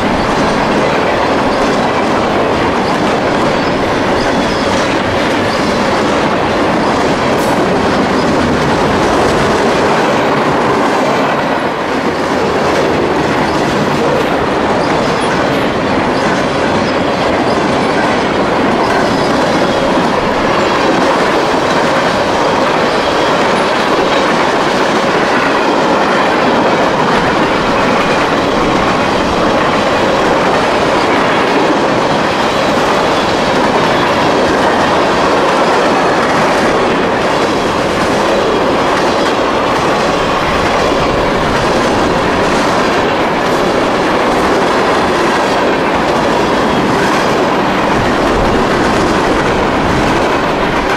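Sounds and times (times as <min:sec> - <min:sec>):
freight train wheels clattering: 0:00.0 - 0:50.9.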